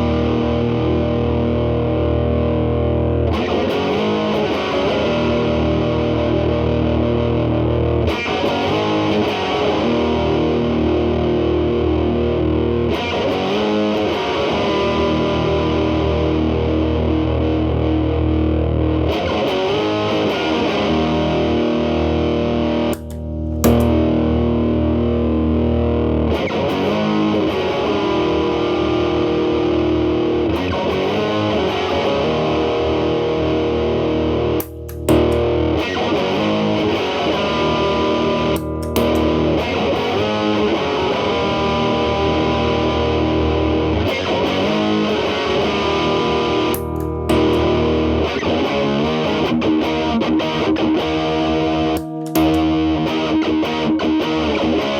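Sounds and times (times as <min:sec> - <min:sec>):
electric guitar chords ringing: 0:00.0 - 0:54.9.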